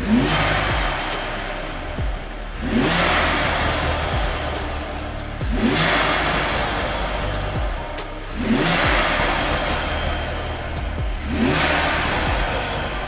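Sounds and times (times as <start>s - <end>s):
car engine revving: 0.0s - 13.0s
faint music: 0.0s - 13.0s.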